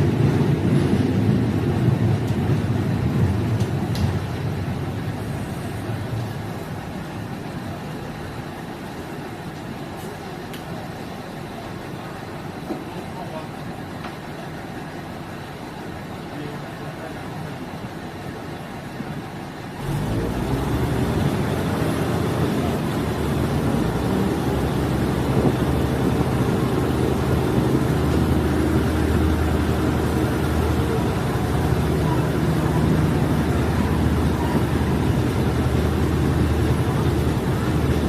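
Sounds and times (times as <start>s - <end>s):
train diesel engine droning: 0.0s - 38.0s
train running noise: 0.0s - 38.0s.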